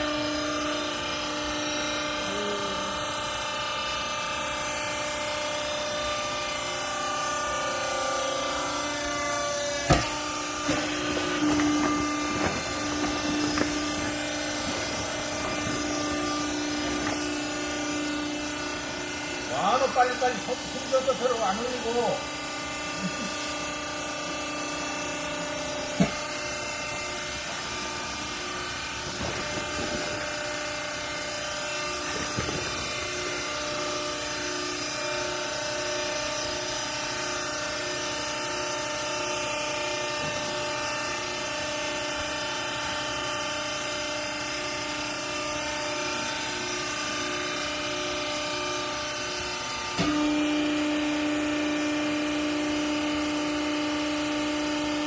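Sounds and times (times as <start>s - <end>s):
hydraulic motor and pump humming: 0.0s - 55.0s.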